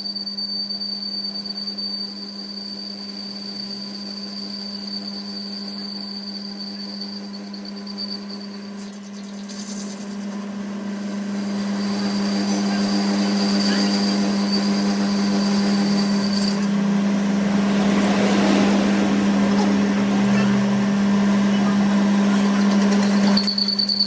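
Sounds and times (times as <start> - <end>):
workshop machine humming and whining: 0.0 - 24.0.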